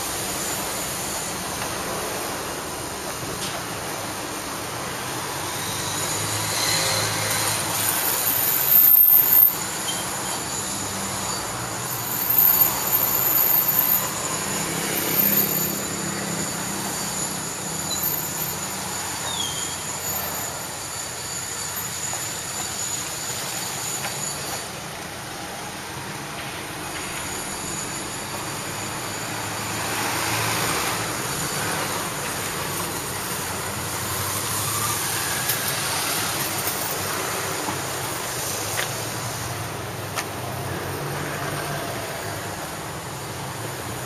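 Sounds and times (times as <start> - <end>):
city street traffic: 0.0 - 44.0
vehicles passing close by: 0.0 - 44.0.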